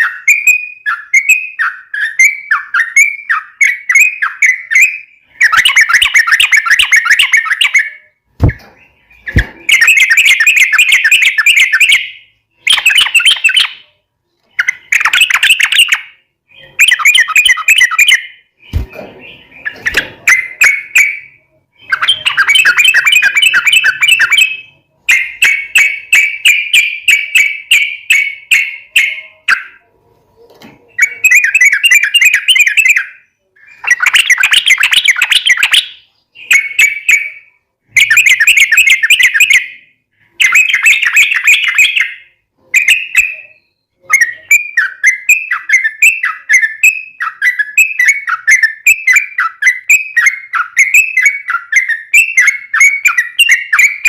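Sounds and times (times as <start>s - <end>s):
bird singing chattering phrases: 0.0s - 29.9s, 30.8s - 54.0s.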